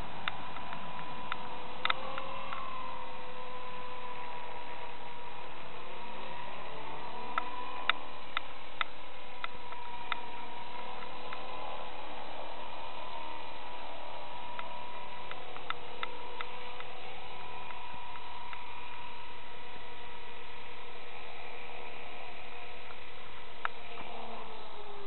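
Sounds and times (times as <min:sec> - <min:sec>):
model helicopter motor whine: 0:00.0 - 0:25.0.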